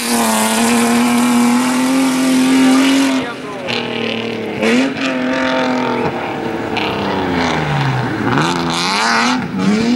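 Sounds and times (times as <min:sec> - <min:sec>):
rally car engine revving: 0:00.0 - 0:09.9.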